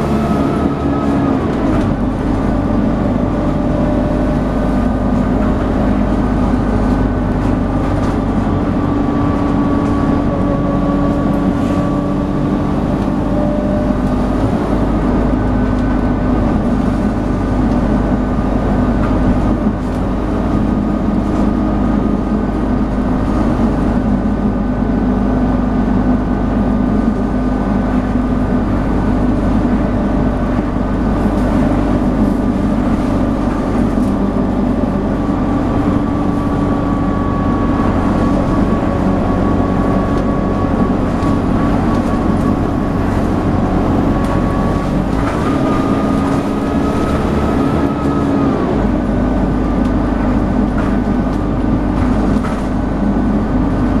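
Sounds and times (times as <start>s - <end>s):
bus engine drone: 0.0s - 54.0s
road and tyre noise: 0.0s - 54.0s
steady whine: 0.0s - 54.0s.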